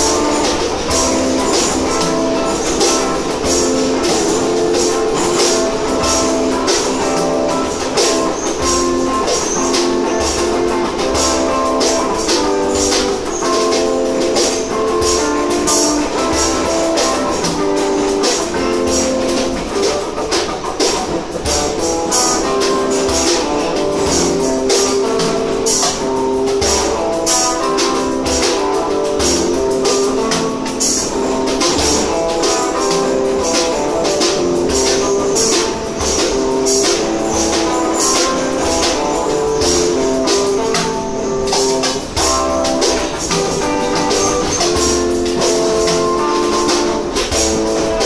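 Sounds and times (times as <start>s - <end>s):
held changing notes: 0.0s - 48.0s
jingling percussion: 0.0s - 48.0s.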